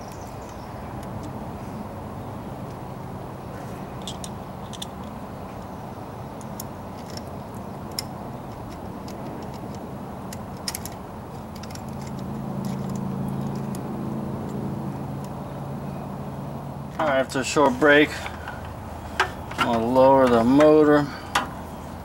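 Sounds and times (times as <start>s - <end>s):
low hum: 0.0s - 20.5s.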